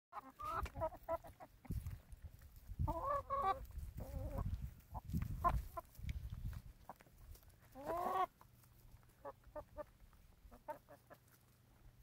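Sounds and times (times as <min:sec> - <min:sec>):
hens clucking: 0:00.1 - 0:12.0.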